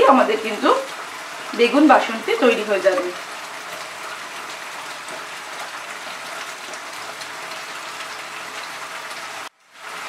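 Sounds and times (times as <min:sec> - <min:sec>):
curry bubbling and sizzling: 0:00.0 - 0:10.0.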